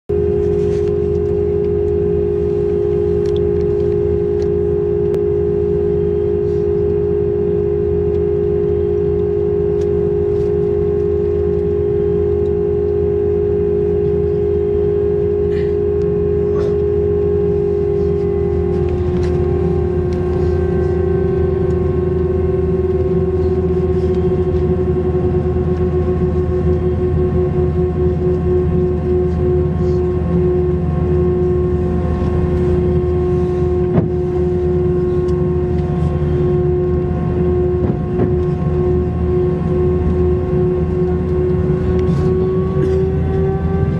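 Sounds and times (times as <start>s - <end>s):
jet engines droning: 0.1s - 43.9s.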